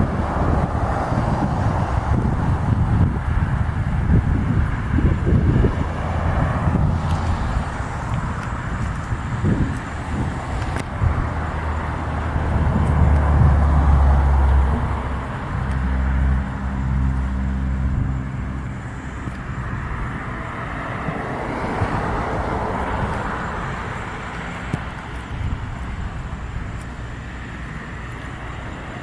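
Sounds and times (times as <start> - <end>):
rush of passing cars: 0.0 - 29.0
vehicle engine running: 0.0 - 29.0.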